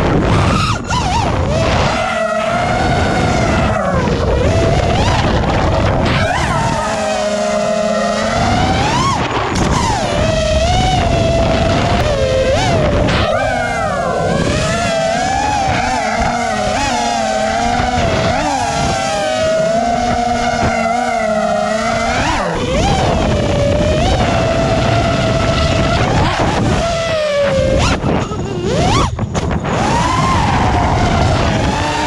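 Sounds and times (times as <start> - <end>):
quadcopter motors whining: 0.0 - 32.0.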